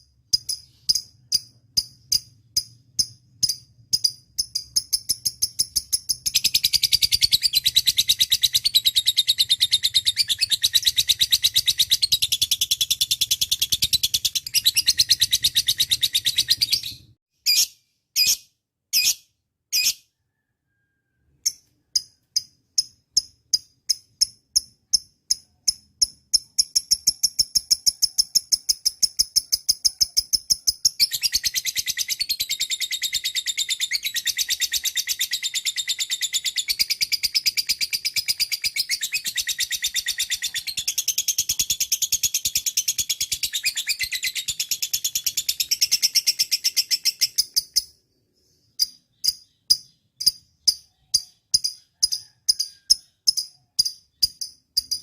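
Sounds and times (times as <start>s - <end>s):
lovebird chirping rapidly: 0.0s - 55.0s.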